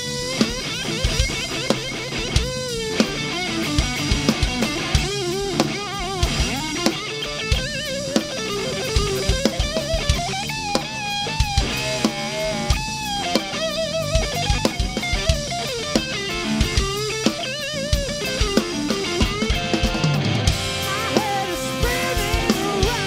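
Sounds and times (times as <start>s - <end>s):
drum kit playing: 0.0s - 23.0s
electric guitar lead: 0.0s - 23.0s.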